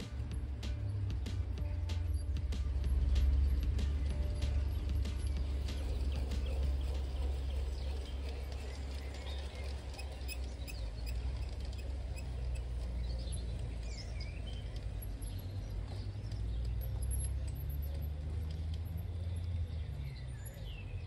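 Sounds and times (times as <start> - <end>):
low rumble: 0.0 - 21.0
small birds chirping: 0.0 - 21.0.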